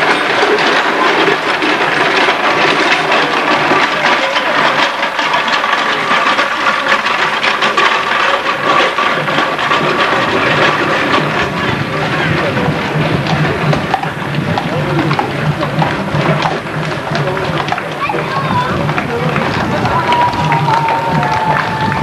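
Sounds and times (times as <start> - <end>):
crowd noise: 0.0 - 22.0
feet tramping: 0.0 - 22.0
wooden-wheeled cart rattling: 0.0 - 22.0.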